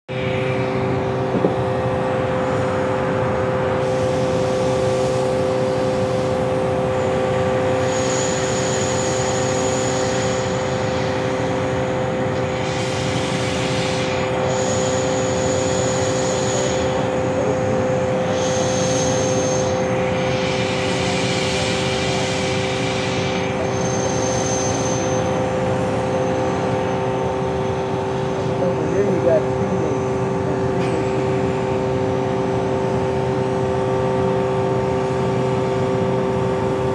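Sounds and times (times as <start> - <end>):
industrial mechanical drone: 0.0 - 36.9
air compressor whistle: 0.1 - 36.9.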